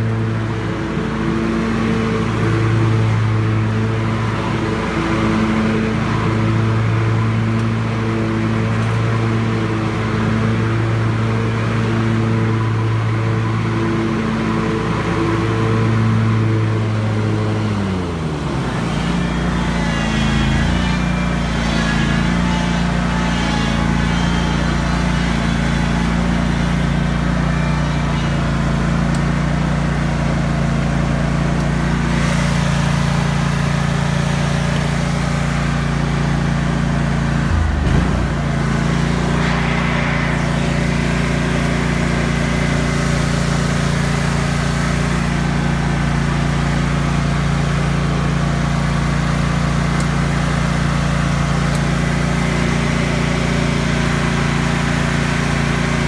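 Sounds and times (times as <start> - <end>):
mower blades whirring: 0.0 - 56.0
mower engine running: 0.0 - 56.0.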